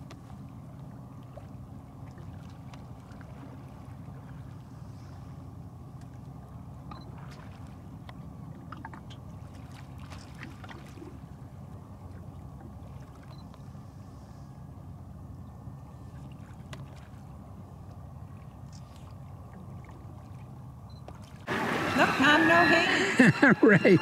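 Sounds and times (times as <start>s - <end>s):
boat engine drone: 0.0s - 24.0s
water and wind hiss: 0.0s - 24.0s.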